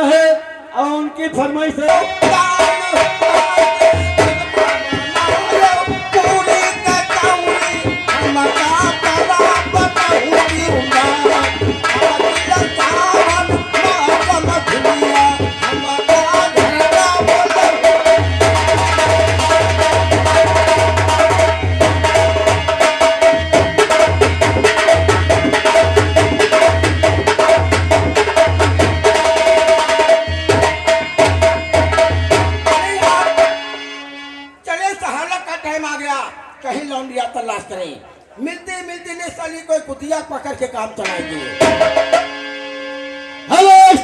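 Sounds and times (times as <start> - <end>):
folk music with tabla: 0.0 - 44.0.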